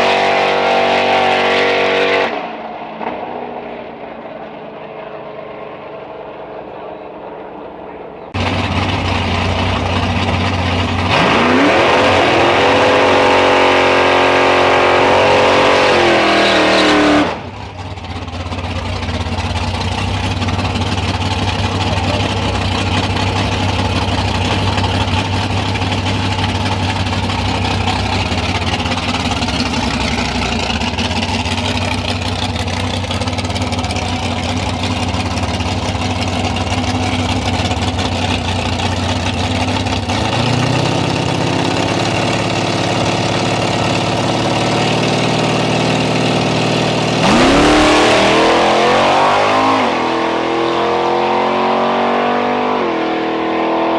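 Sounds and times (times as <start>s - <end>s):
car engine revving: 0.0s - 53.9s
engine rumble: 0.0s - 53.9s.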